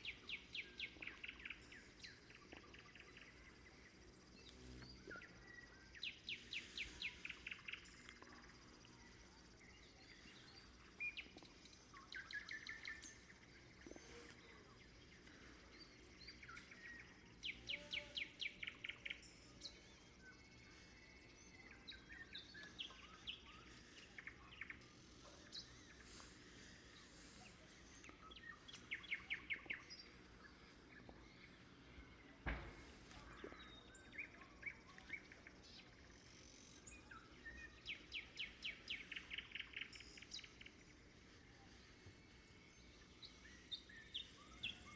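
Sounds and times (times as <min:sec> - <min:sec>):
faint outdoor background noise: 0:00.0 - 0:44.9
nightingale singing: 0:00.0 - 0:44.9.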